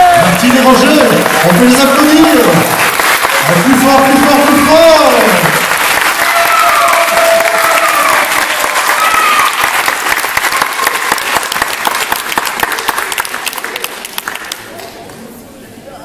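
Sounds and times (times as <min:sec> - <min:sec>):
audience applause: 0:00.0 - 0:14.8.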